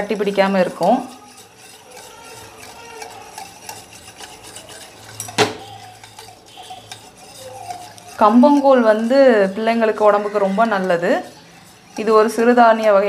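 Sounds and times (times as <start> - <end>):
whisk knocking against pan: 0.0 - 13.0
whisk scraping metal pan: 0.0 - 13.0.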